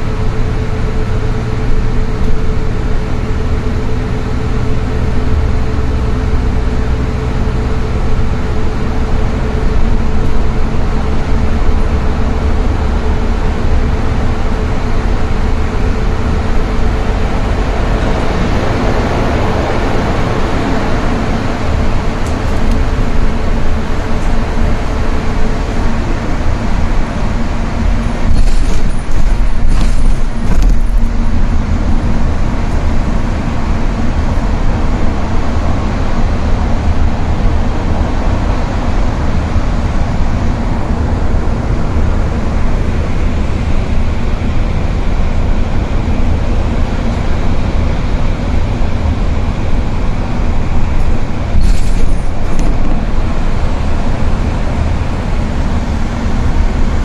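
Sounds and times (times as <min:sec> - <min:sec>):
tyre and engine rumble in cabin: 0:00.0 - 0:57.0.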